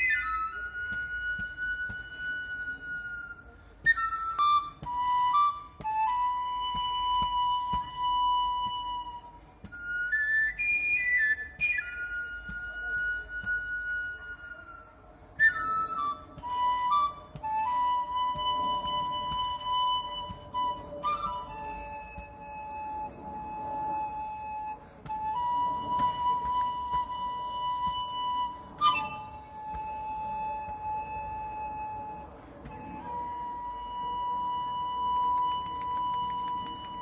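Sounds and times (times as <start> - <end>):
flute playing slow melody: 0.0 - 37.0.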